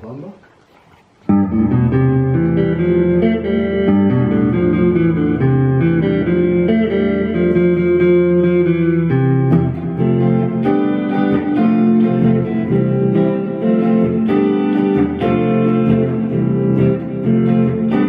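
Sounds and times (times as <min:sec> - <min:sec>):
clean electric guitar with reverb: 0:01.3 - 0:18.0.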